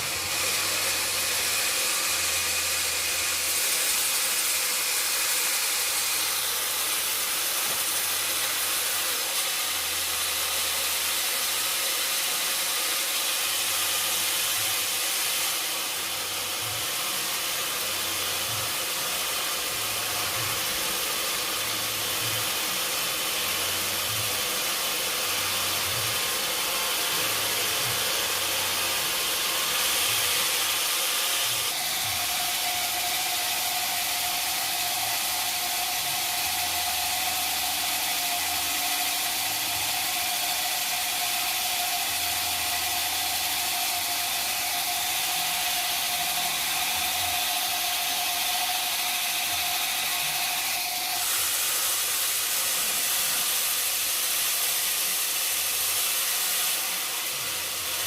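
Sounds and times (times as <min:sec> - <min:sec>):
saw cutting wood: 0:00.0 - 0:58.0
steady whine: 0:00.0 - 0:58.0.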